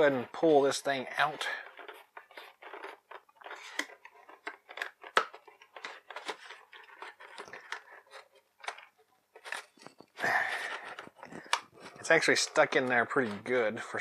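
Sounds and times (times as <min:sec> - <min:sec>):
cardboard and plastic scraping crinkling: 0:00.0 - 0:14.0.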